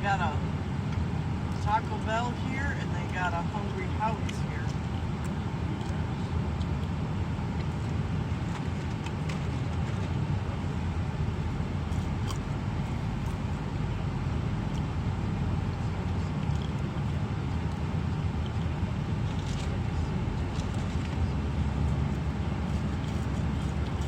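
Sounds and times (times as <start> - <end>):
road and engine rumble: 0.0 - 24.0.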